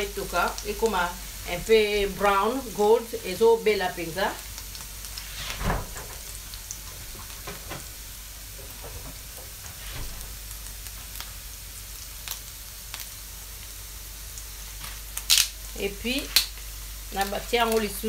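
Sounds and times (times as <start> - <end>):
onion sizzling in a pan: 0.0 - 18.0.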